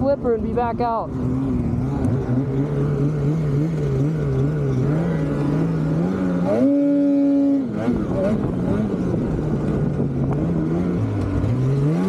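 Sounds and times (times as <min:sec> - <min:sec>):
snowmobile engine revving: 0:00.1 - 0:12.0.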